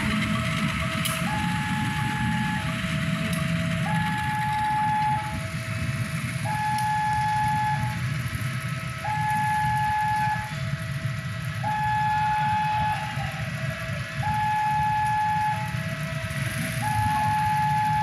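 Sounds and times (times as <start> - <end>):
low engine rumble: 0.0 - 18.0
two-tone hi-lo siren: 0.0 - 18.0.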